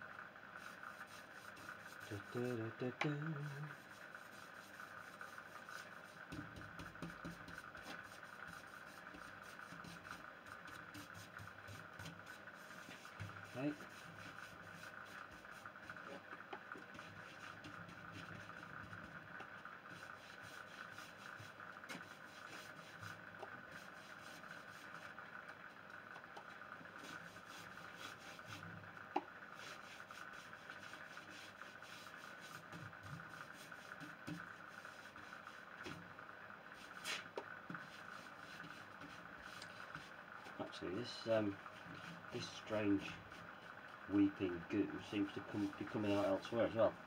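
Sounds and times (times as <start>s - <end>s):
faint steady hum: 0.0s - 47.0s
cloth rubbing wax into wood: 0.6s - 25.2s, 26.4s - 36.0s, 36.7s - 43.5s, 44.1s - 47.0s.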